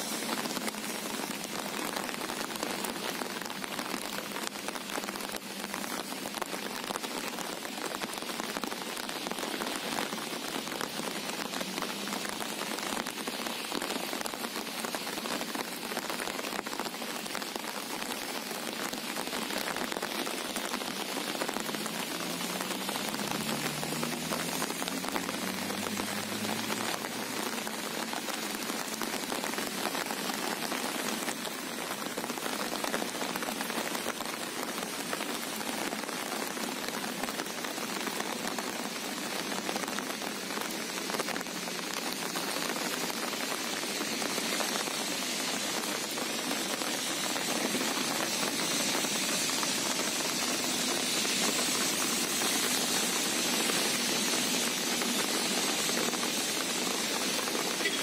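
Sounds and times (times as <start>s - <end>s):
rain falling on sea water: 0.0s - 58.0s.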